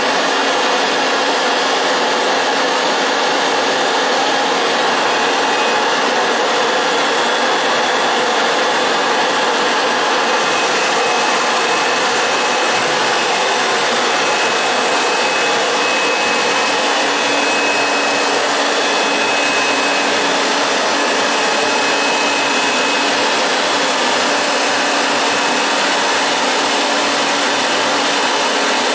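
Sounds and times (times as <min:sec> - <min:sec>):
burner roaring with forced air: 0:00.0 - 0:28.9
faint high whine: 0:01.4 - 0:28.9.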